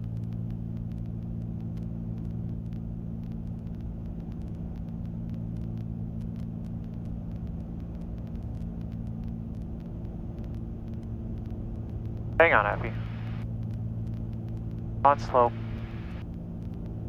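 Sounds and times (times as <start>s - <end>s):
twin propeller engines droning: 1.9s - 17.0s.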